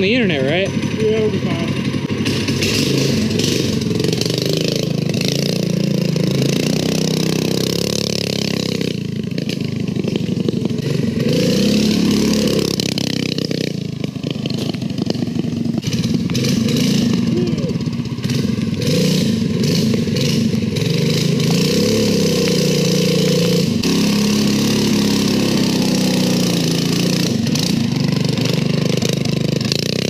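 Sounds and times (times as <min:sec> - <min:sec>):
small engine revving: 0:00.0 - 0:30.0.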